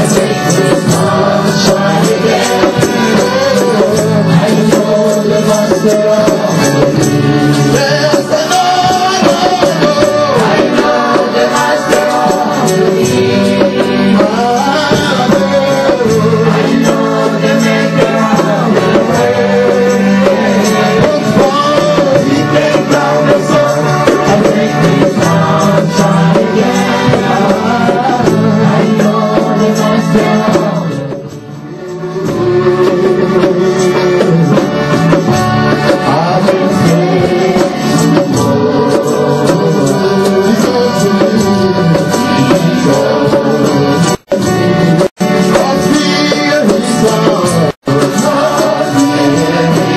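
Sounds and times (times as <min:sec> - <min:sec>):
worship singing over a band: 0:00.0 - 0:49.9.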